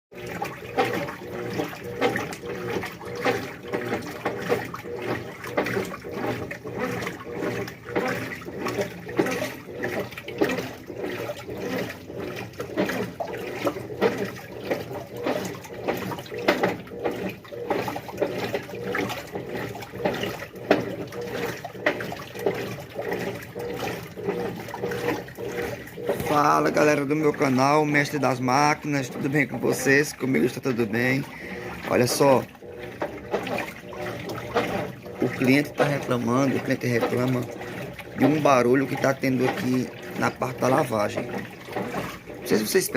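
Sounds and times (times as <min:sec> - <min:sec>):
washing machine motor hum: 0:00.1 - 0:42.9
water churning in washing machine: 0:00.1 - 0:42.9.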